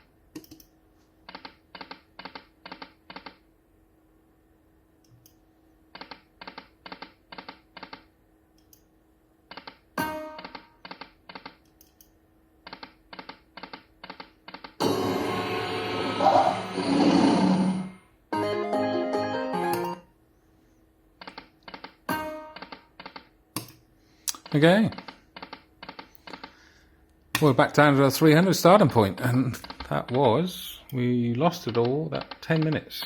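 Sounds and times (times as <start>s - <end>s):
faint steady hum: 0.0s - 16.7s, 19.6s - 33.0s.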